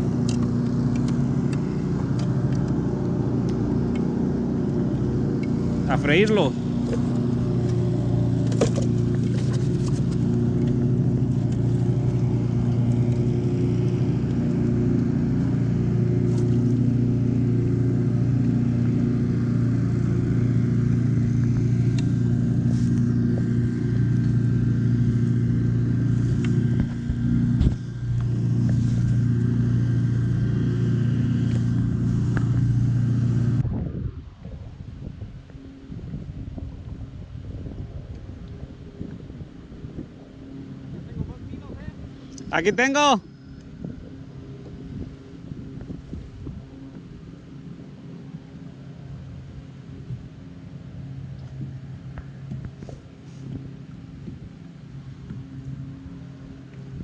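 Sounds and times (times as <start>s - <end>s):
low engine hum: 0.0s - 57.0s.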